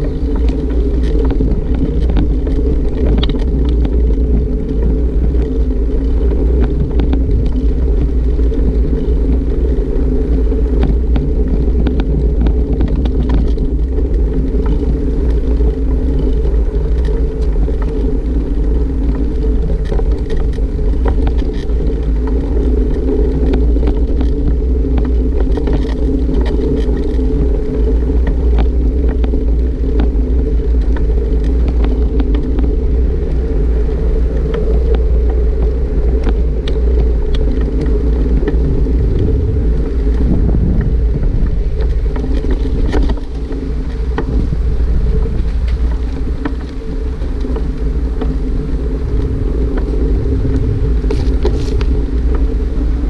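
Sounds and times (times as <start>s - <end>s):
faint clicks and rattles: 0.0s - 53.0s
wind rumble on microphone: 0.0s - 53.0s.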